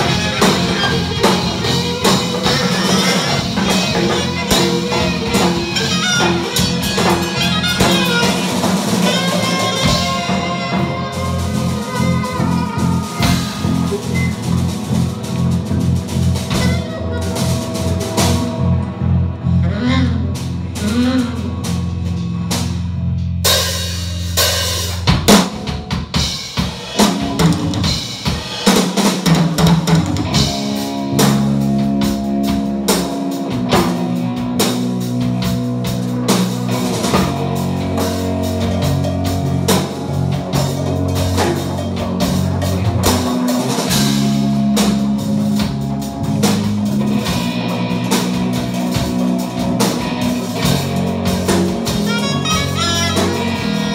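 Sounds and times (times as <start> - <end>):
drum kit hits: 0.0 - 19.0, 20.4 - 53.9
live band playing: 0.0 - 53.9.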